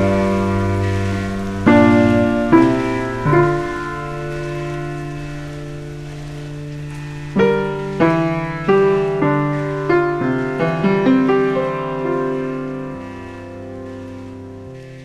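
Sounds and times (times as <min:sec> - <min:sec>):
held chord: 0:00.0 - 0:15.0
single piano notes: 0:00.0 - 0:15.0.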